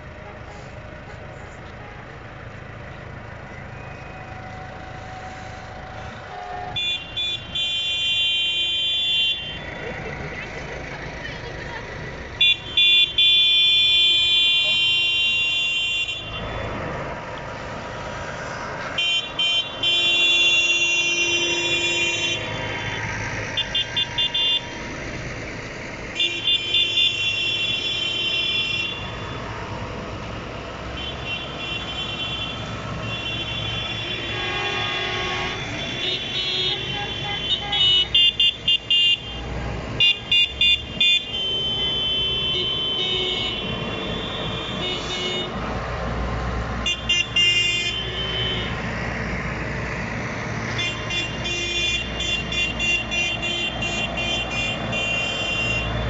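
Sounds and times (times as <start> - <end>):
tractor engines running: 0.0 - 56.0
tractor horns honking: 3.8 - 49.3, 50.5 - 56.0.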